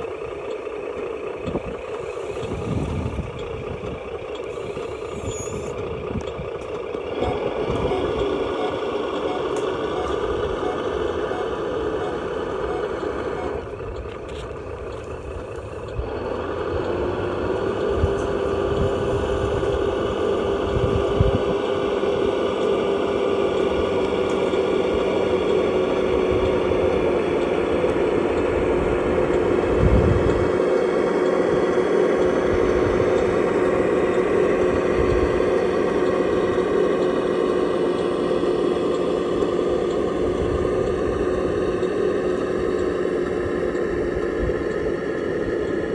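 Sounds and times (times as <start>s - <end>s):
rc truck motor whining: 0.0s - 45.9s.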